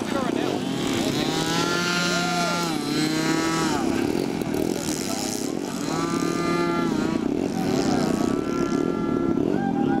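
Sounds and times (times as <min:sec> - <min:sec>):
model airplane engines revving: 0:00.0 - 0:09.6.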